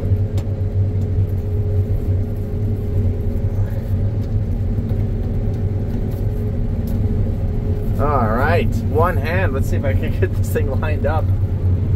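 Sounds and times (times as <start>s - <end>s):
combine harvester rumbling: 0.0s - 11.9s.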